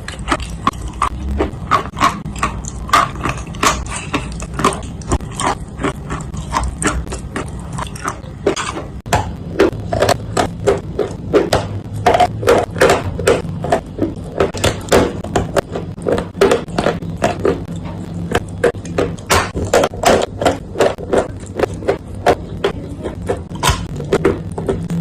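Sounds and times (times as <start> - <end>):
dry clay crunching: 0.0 - 25.0
faint low hum: 0.0 - 25.0.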